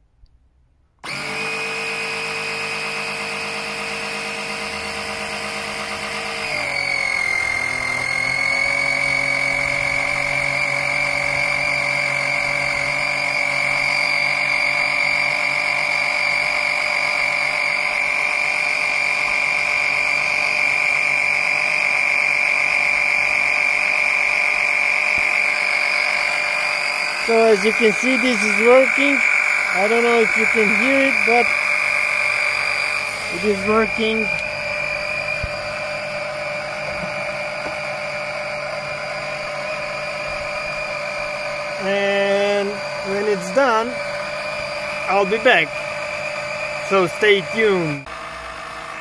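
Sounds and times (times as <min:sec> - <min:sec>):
electric pump motor whine: 0:01.0 - 0:49.0.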